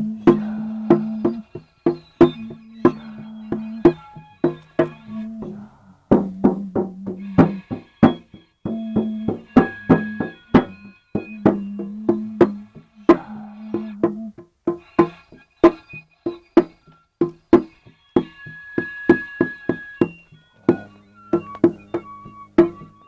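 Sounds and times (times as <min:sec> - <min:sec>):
sharp percussive strikes: 0:00.0 - 0:23.0.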